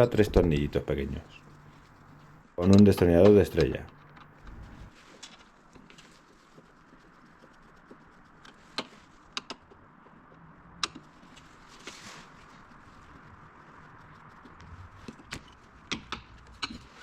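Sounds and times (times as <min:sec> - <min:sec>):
rustle of handling: 0:00.0 - 0:09.4, 0:11.0 - 0:17.0.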